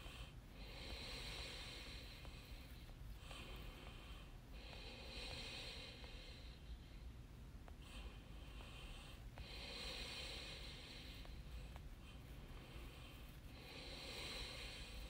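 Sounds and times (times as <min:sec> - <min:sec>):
faint breathing: 0:00.0 - 0:15.0
low steady hum: 0:00.0 - 0:15.0.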